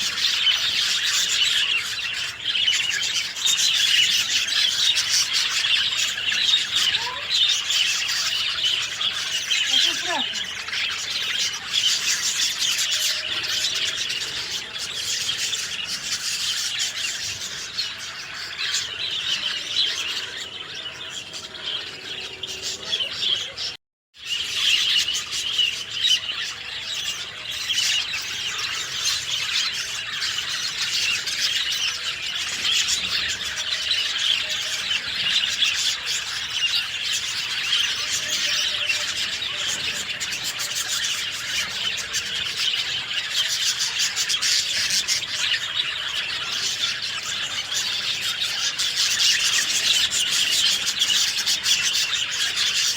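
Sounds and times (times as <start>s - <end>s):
birds chirping and singing: 0.0s - 52.9s.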